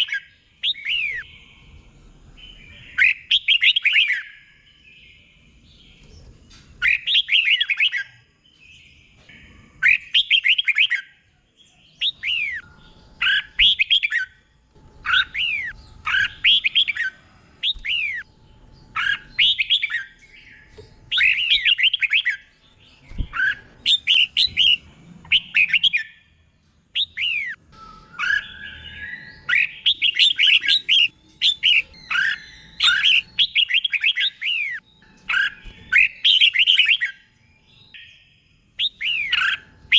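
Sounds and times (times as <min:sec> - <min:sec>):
bird singing warbled phrases: 0:00.0 - 0:26.4, 0:27.0 - 0:39.9.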